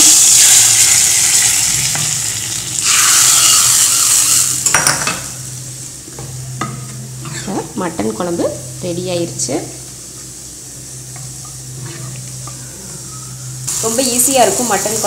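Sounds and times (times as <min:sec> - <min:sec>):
hot oil sizzling in a pot: 0:00.0 - 0:15.0.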